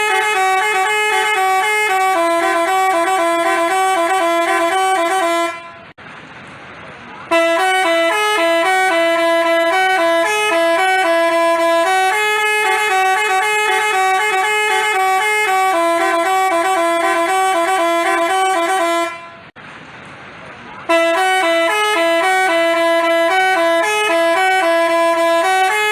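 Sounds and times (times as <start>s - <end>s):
bus horn playing a tune: 0.0s - 6.0s, 7.2s - 19.6s, 20.8s - 25.9s.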